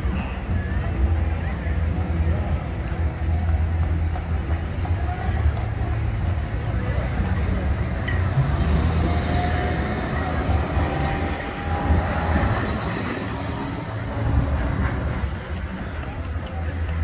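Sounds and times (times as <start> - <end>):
tram rumbling past: 0.0 - 17.0.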